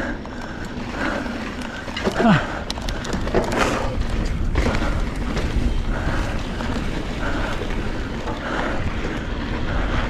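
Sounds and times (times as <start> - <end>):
bike tyres rolling over dirt: 0.0 - 10.0
wind buffeting microphone: 0.0 - 10.0.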